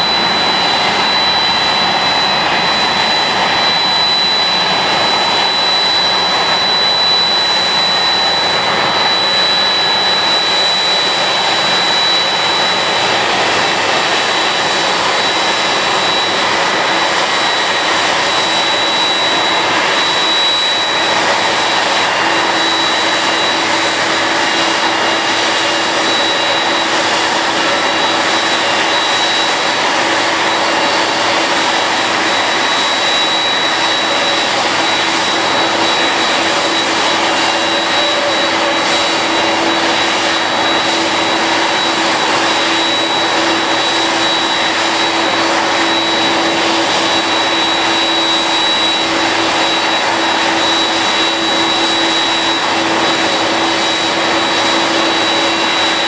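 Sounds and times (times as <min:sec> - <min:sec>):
jet turbine running: 0:00.0 - 0:56.0.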